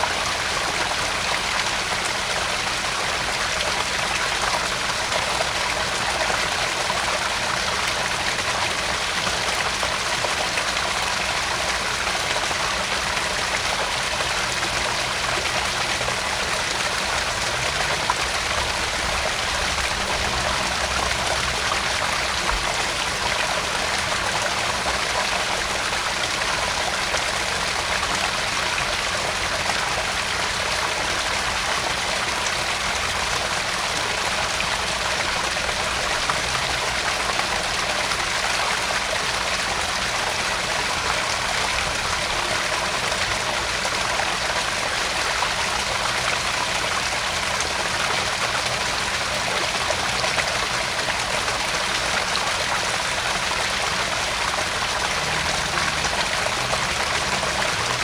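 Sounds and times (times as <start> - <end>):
water splashing into pond: 0.0 - 58.0.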